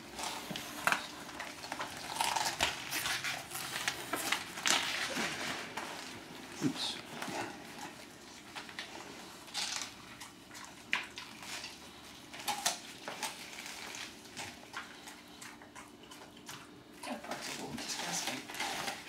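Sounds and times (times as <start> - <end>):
dog crunching cabbage: 0.0 - 19.0.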